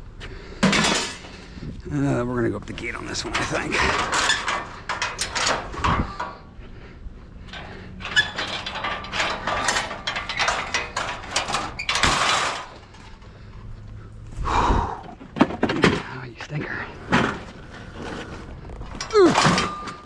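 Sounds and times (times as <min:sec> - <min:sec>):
scrap metal clattering and knocking: 0:00.6 - 0:01.6, 0:02.7 - 0:13.9, 0:15.1 - 0:20.0.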